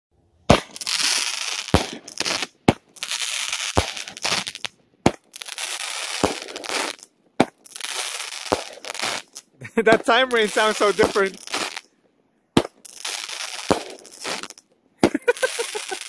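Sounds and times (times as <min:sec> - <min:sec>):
fireworks bangs: 0:00.4 - 0:11.9, 0:12.5 - 0:16.0
fireworks crackling: 0:00.5 - 0:12.0, 0:12.6 - 0:16.0.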